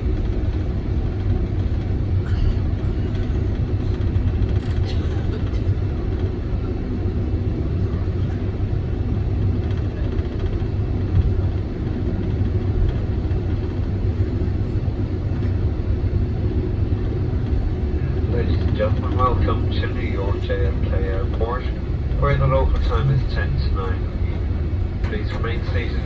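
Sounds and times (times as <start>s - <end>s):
airplane taxiing rumble: 0.0s - 26.0s.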